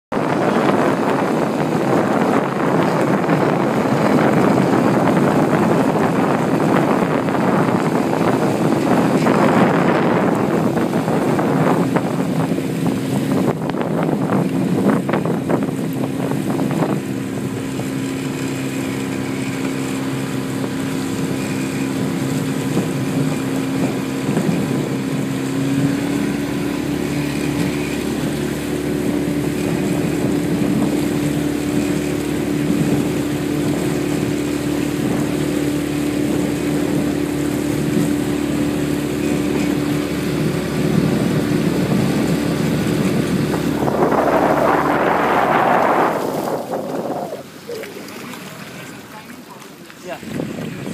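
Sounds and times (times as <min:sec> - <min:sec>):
motorboat engine running: 0:00.1 - 0:50.9
wind buffeting microphone: 0:00.1 - 0:50.9.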